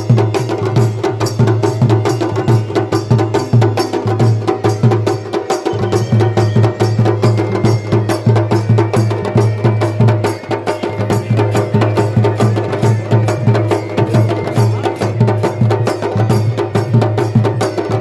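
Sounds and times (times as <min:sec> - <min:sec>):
fast drum strokes: 0:00.0 - 0:18.0.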